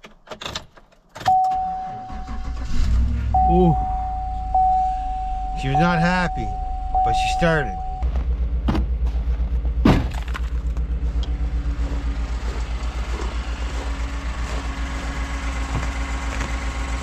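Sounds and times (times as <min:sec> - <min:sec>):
truck engine idling: 0:01.3 - 0:17.0.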